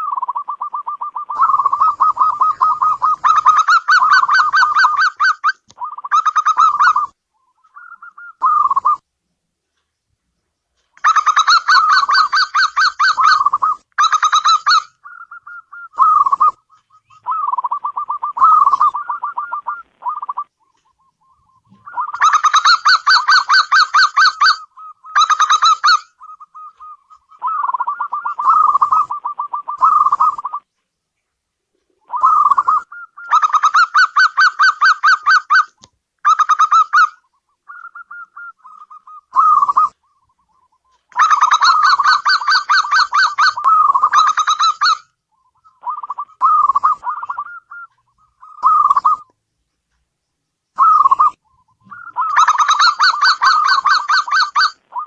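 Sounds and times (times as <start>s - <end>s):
dove cooing: 0.0s - 9.0s, 11.0s - 30.7s, 31.7s - 49.3s, 50.8s - 55.0s.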